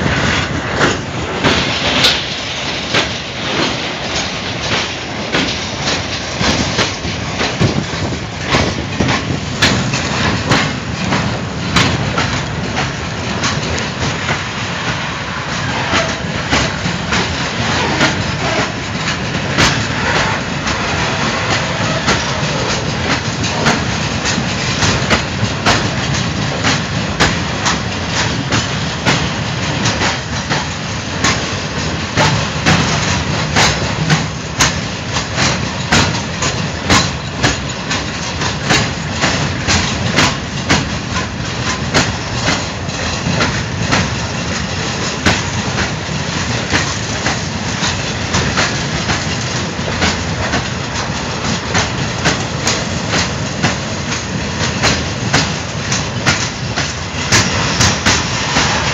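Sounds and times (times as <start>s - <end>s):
train wheels rumbling on rails: 0.0s - 58.9s
wheels clacking over rail joints: 0.0s - 58.9s.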